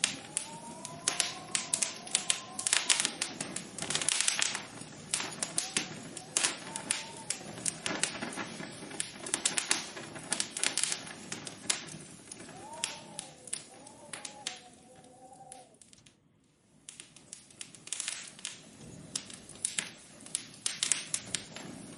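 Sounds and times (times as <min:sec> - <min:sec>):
dense irregular tapping and clicking: 0:00.0 - 0:16.2, 0:16.8 - 0:21.9.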